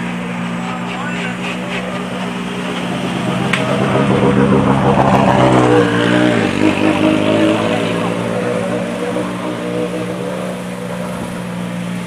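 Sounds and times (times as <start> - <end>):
rally car engine passing by: 0.0 - 12.0.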